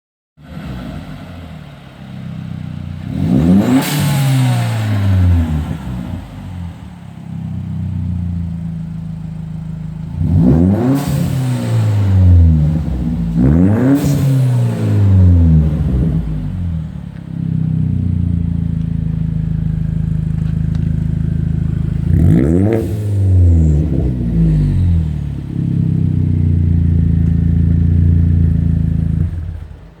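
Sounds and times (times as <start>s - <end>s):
car engine revving: 0.4s - 30.0s.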